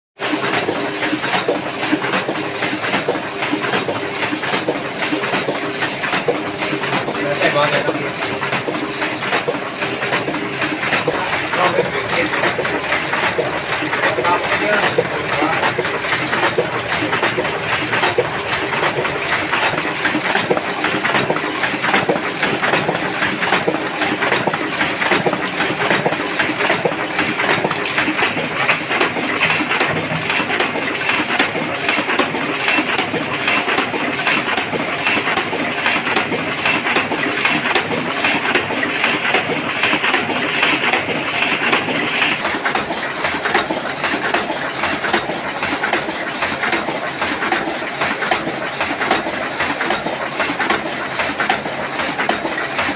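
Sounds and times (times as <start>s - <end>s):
printing press clattering: 0.2s - 52.9s.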